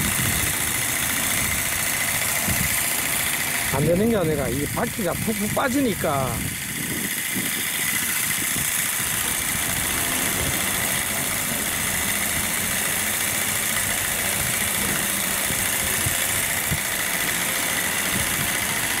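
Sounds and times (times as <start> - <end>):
grass shear whining: 0.0 - 19.0.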